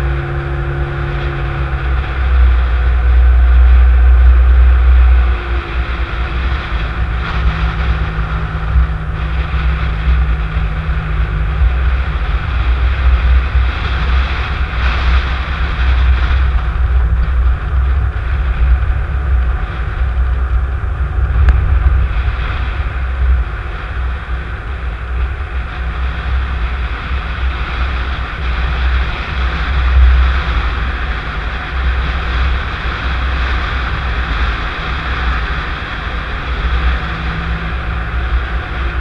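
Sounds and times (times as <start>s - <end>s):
car engine and road noise: 0.0s - 39.0s.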